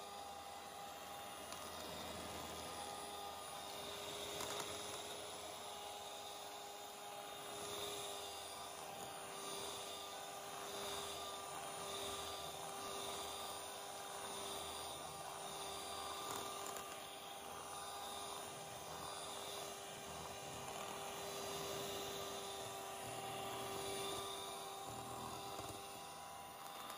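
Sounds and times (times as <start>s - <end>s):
electric hand mixer whining: 0.0s - 26.9s.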